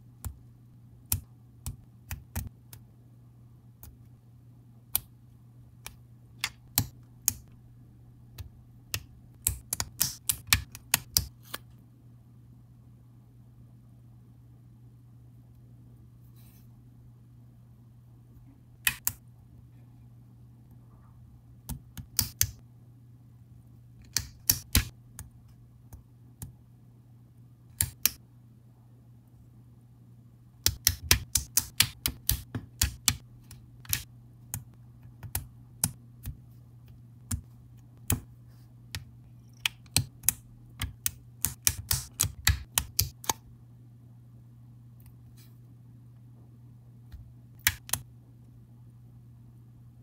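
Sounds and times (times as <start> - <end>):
faint low hum: 0.0 - 50.0.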